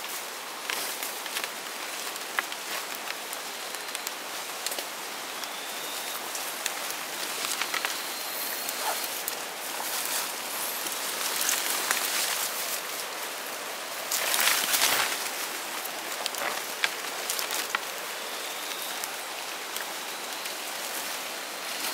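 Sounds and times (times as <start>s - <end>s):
brushing through undergrowth: 0.0s - 21.9s
footsteps crunching through leaves: 0.0s - 21.9s
steady hiss: 0.0s - 21.9s.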